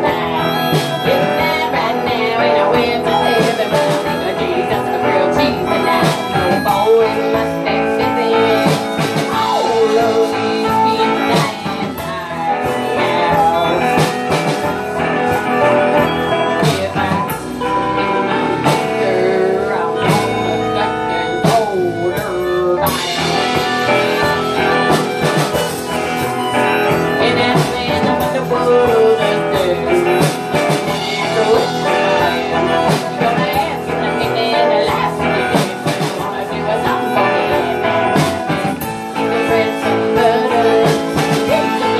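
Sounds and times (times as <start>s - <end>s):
live band with electric guitars: 0.0s - 41.9s.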